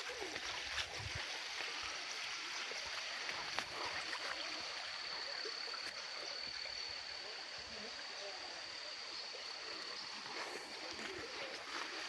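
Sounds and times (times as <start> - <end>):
stream water rushing: 0.0 - 7.6, 9.5 - 12.0.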